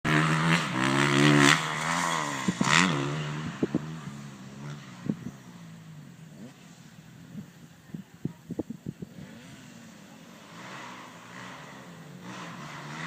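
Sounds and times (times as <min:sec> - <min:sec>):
dirt bike engine revving: 0:00.0 - 0:06.9, 0:09.0 - 0:13.0.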